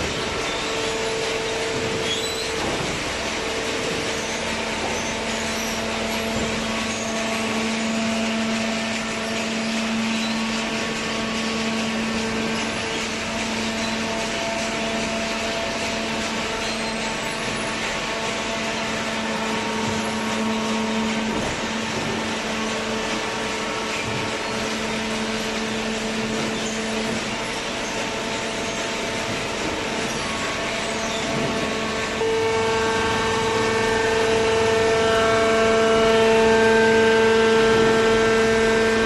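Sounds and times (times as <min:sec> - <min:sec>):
baler machine hum: 0:00.0 - 0:39.0.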